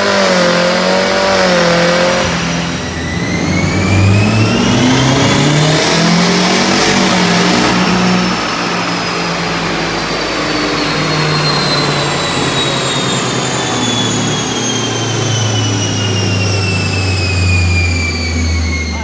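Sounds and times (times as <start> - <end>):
car engine droning on a dynamometer: 0.0 - 19.0
high turbo whine: 0.0 - 19.0.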